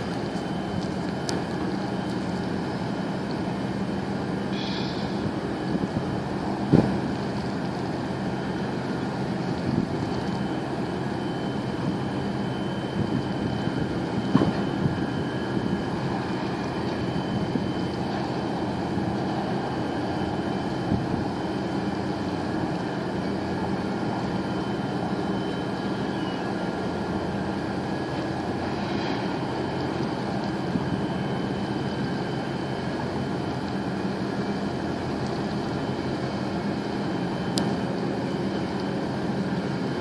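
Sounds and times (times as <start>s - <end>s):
boat engine drone: 0.0s - 40.0s.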